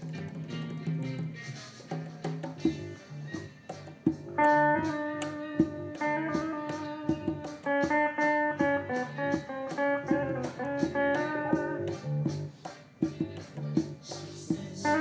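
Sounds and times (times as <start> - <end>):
conga drums struck by hand: 0.0 - 15.0
guitar music: 0.0 - 15.0.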